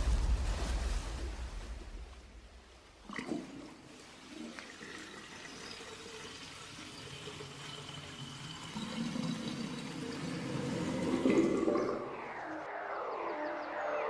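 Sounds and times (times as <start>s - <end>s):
water sloshing and bubbling: 0.0s - 12.8s.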